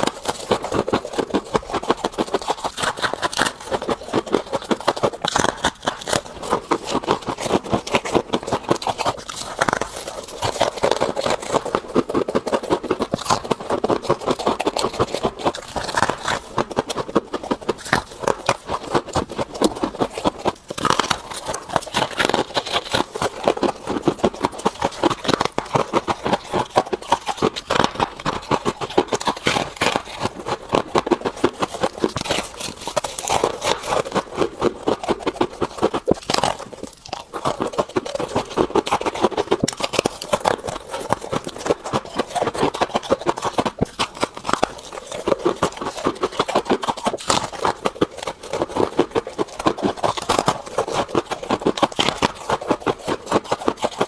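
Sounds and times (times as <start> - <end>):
scraping freezer frost: 0.0 - 54.0.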